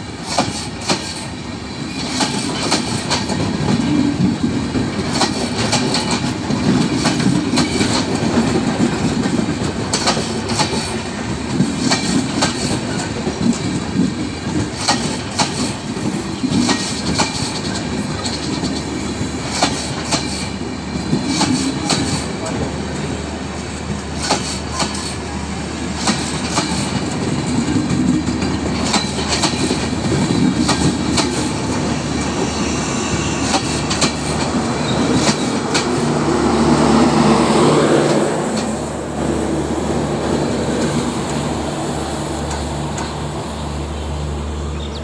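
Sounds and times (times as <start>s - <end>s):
clickety-clack of rail joints: 0.0s - 39.4s, 40.2s - 43.7s
train wheels rumbling on rails: 0.0s - 45.0s.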